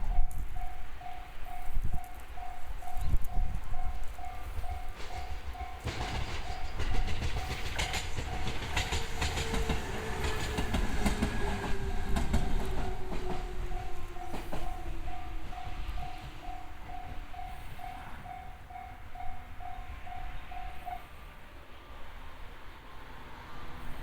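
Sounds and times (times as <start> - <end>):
train wheels clicking on rail joints: 0.0 - 21.0
electric train hum: 0.0 - 24.0
crossing alarm ringing: 0.1 - 21.1.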